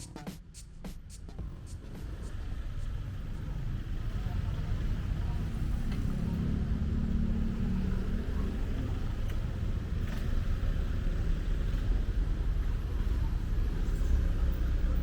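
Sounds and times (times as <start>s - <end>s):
low rumble of passing vehicles: 0.0s - 15.0s.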